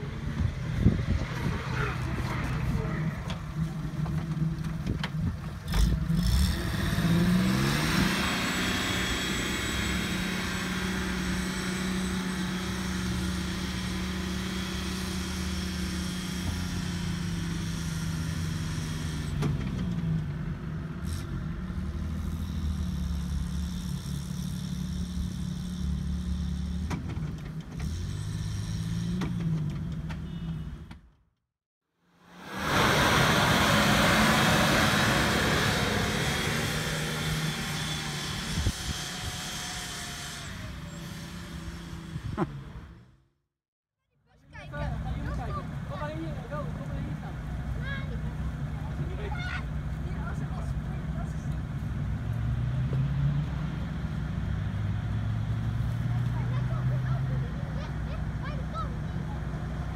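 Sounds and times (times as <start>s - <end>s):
van engine revving under load: 0.0s - 31.0s, 32.1s - 43.4s, 46.5s - 59.9s.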